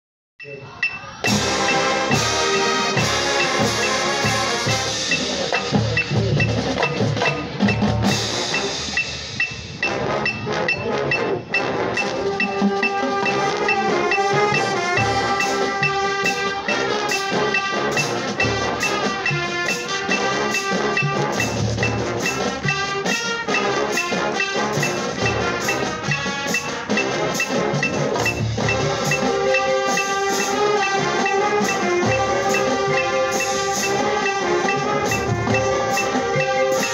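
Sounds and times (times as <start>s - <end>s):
drums beating sharp hits: 0.4s - 36.9s
marimbas and xylophones: 0.4s - 36.9s
brass: 1.2s - 36.9s.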